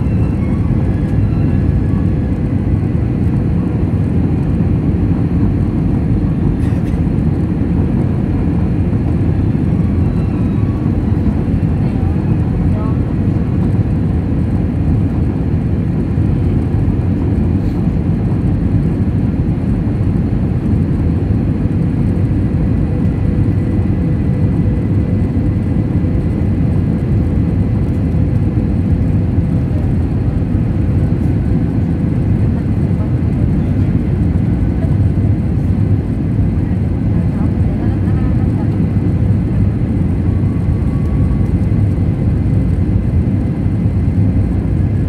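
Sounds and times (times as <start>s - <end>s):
jet engines and rushing air roar: 0.0s - 45.0s.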